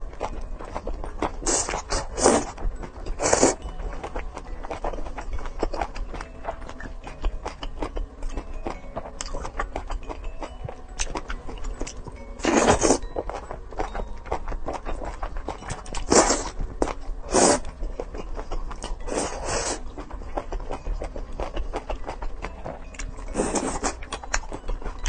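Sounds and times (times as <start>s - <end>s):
chewing and crunching: 0.0s - 25.0s.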